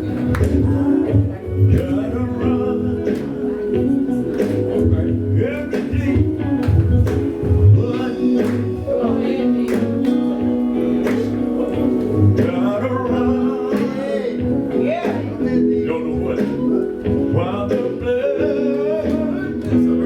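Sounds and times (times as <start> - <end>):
gospel band playing: 0.0 - 20.0
man singing: 0.0 - 20.0.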